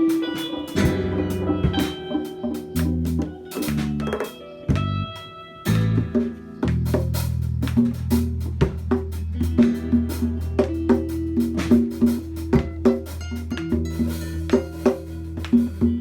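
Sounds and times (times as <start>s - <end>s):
background music with drum beat: 0.0s - 16.0s.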